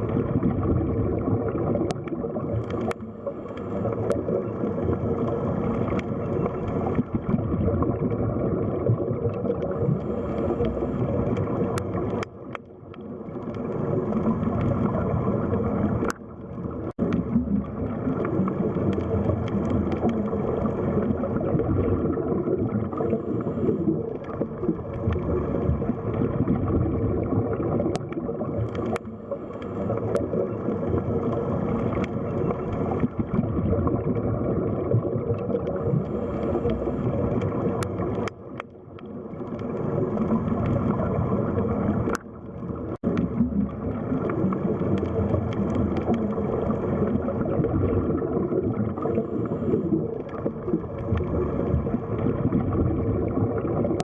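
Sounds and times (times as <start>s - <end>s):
muffled underwater water noise: 0.0s - 54.0s.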